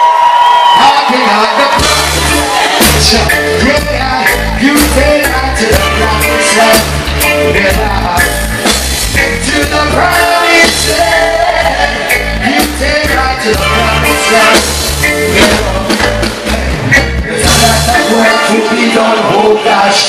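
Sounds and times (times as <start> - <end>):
live reggae band playing: 0.0 - 20.0
man singing into a microphone: 0.8 - 8.6, 9.2 - 20.0
pulsing bass line: 1.8 - 18.4.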